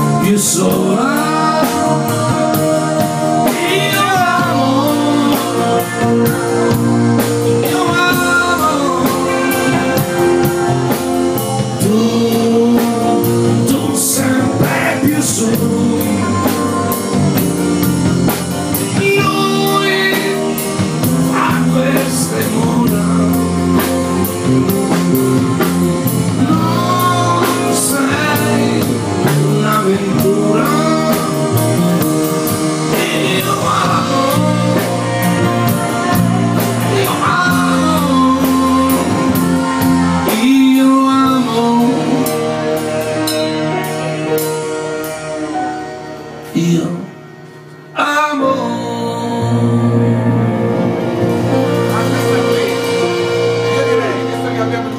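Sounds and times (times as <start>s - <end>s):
person singing: 0.0s - 44.6s, 47.9s - 54.9s
drum kit with cymbals: 0.0s - 46.8s, 49.6s - 54.9s
acoustic and electric guitars: 0.0s - 54.9s
keyboard: 0.0s - 54.9s.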